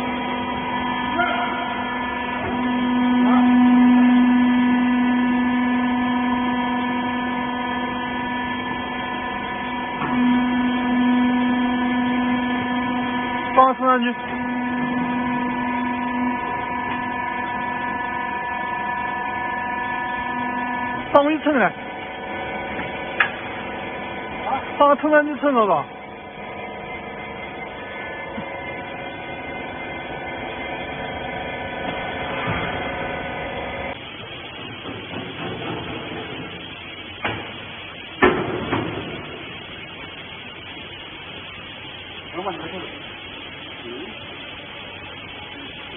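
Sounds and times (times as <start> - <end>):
hydraulic pump motor humming: 0.0 - 45.9.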